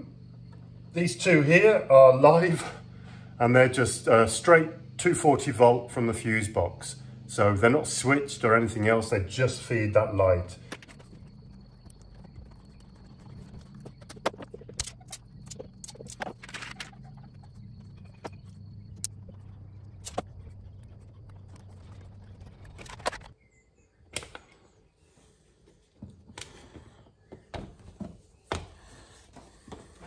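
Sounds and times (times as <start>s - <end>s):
small engine droning: 0.0s - 25.5s.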